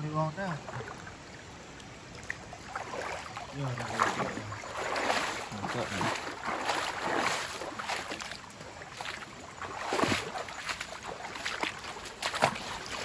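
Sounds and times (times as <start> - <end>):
river water splashing: 0.2 - 13.0.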